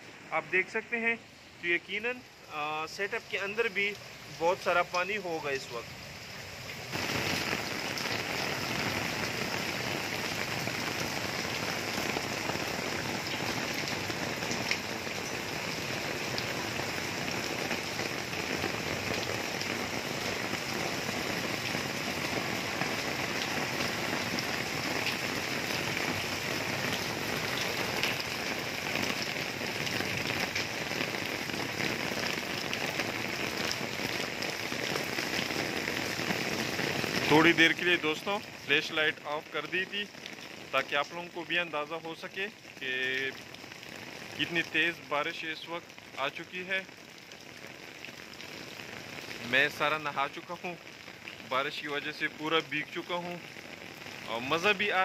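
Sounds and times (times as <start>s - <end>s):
heavy rain splashing into water: 0.2s - 55.0s
rain drumming on umbrella: 2.0s - 55.0s.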